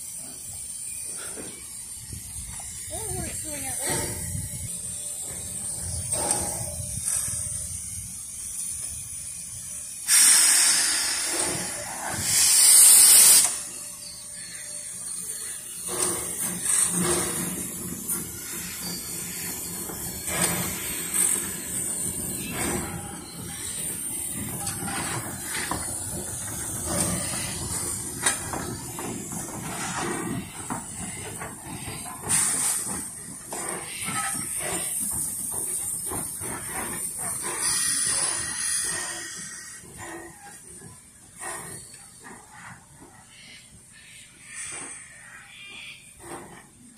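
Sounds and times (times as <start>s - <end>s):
steam locomotive hissing: 0.0s - 46.9s.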